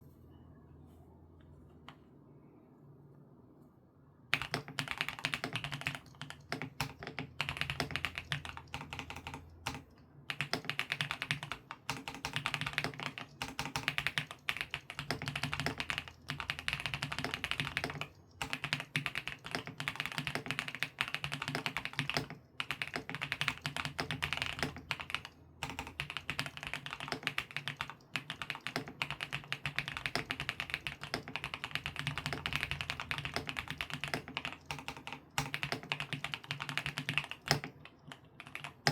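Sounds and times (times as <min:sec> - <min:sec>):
fast typing on mechanical keyboard: 0:04.3 - 0:38.9.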